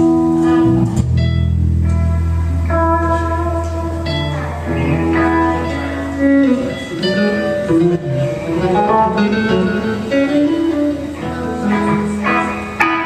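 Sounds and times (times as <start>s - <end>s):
low bass line: 0.0s - 12.3s
electric guitars picking melodic notes: 0.0s - 13.0s
live band playing: 0.0s - 13.0s.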